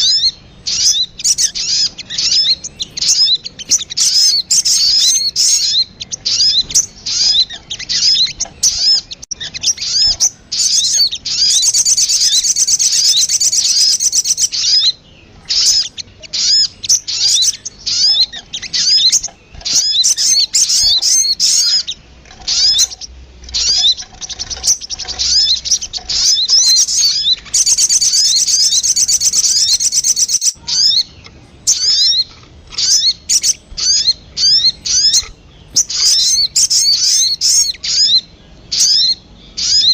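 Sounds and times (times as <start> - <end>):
bird calling with sharp high chirps: 0.0 - 39.9
bird chattering: 0.0 - 39.9.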